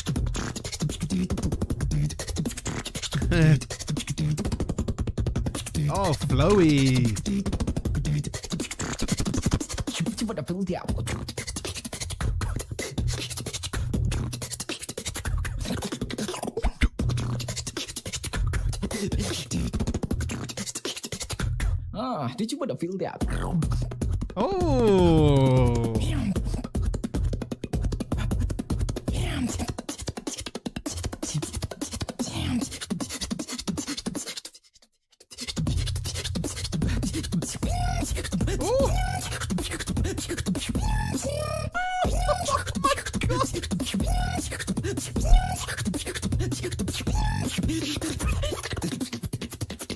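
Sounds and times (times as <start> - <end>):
beatboxing clicks and hits: 0.0 - 21.9, 23.1 - 49.9
deep beatboxed bass: 0.0 - 21.9, 23.2 - 34.4, 35.3 - 49.9.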